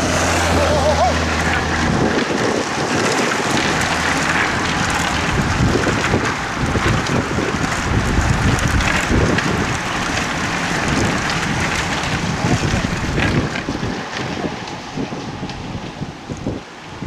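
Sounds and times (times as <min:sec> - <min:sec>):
bikes rattling on cobbles: 0:00.0 - 0:17.0
wind buffeting microphone: 0:00.0 - 0:17.0.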